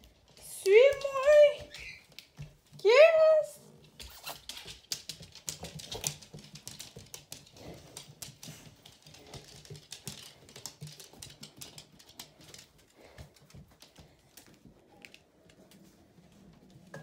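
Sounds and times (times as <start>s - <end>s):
dog claws clicking on floor: 0.0s - 2.8s, 3.7s - 15.8s.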